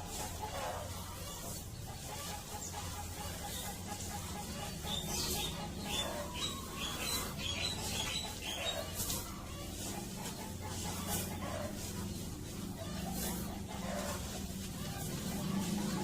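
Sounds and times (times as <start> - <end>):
chickens chirping: 0.0 - 16.0.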